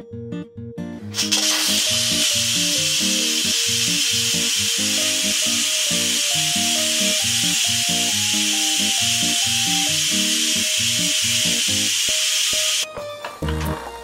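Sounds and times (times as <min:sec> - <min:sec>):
background music: 0:00.0 - 0:14.0
steam hissing from pressure cooker: 0:01.2 - 0:12.9.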